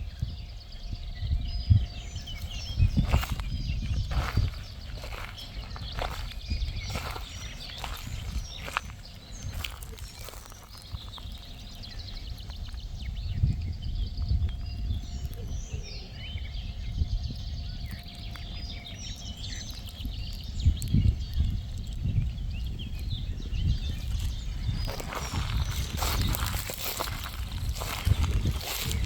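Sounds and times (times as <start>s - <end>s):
songbirds chirping: 0.0s - 29.0s
wind rumble on microphone: 0.0s - 29.0s.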